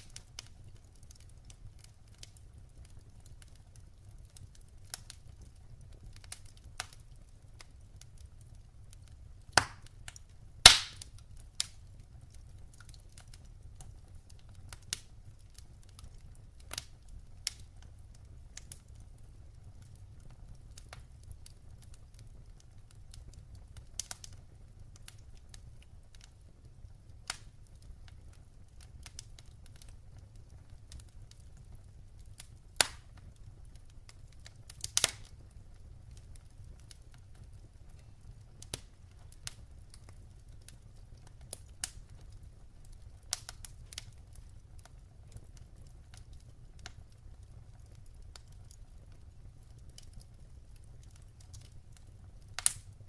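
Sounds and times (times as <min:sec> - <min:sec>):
firewood crackling and popping: 0:00.0 - 0:53.0
low steady fire rumble: 0:00.0 - 0:53.0.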